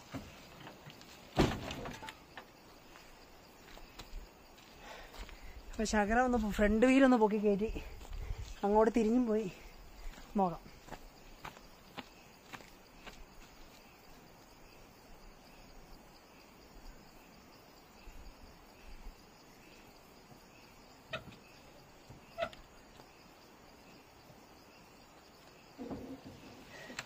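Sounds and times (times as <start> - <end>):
faint insect chirping: 0.0 - 27.0.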